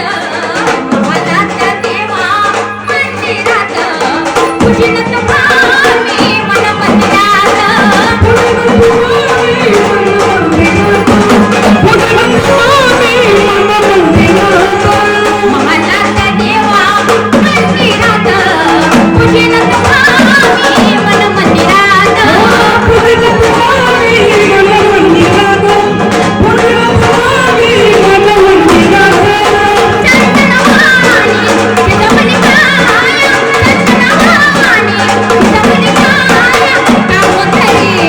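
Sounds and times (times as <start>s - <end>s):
drum strokes: 0.0s - 38.0s
person singing: 0.0s - 38.0s.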